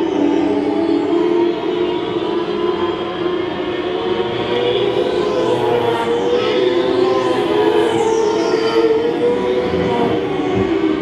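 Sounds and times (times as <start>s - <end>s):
small racing engines running: 0.1s - 11.0s.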